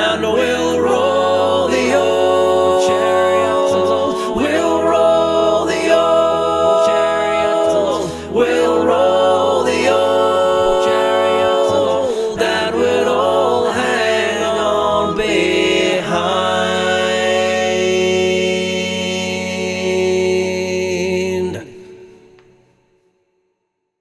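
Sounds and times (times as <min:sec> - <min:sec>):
voices singing in harmony: 0:00.0 - 0:22.2.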